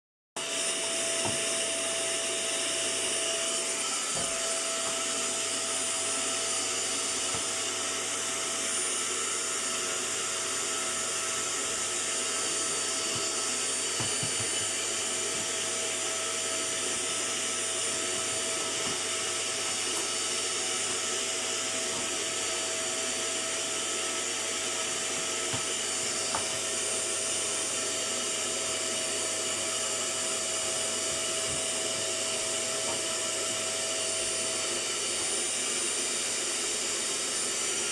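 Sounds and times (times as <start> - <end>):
vacuum cleaner running: 0.4 - 37.9.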